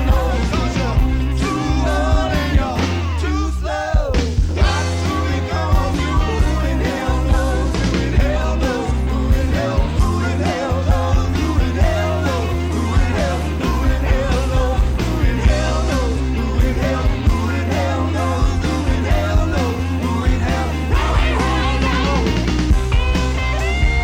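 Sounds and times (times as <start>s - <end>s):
person singing: 0.0s - 22.4s
bass guitar: 0.0s - 24.0s
drums: 0.0s - 24.0s
guitars: 0.0s - 24.0s
keyboards: 0.0s - 24.0s.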